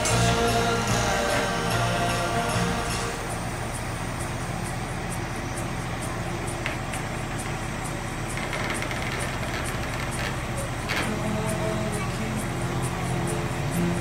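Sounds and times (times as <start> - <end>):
music playing: 0.0 - 14.0
steady ticking beat: 0.0 - 14.0
vehicle engine running: 0.0 - 14.0.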